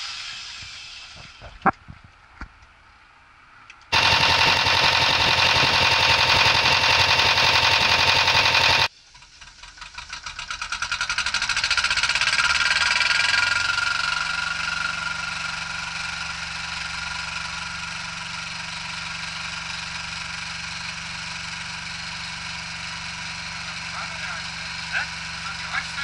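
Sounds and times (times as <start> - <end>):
diesel engine starting and idling: 3.9 - 26.0.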